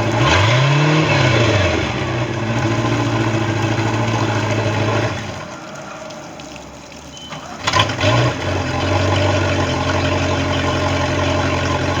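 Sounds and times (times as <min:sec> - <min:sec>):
boat engine idling: 0:00.0 - 0:12.0
boat engine starting: 0:00.0 - 0:12.0.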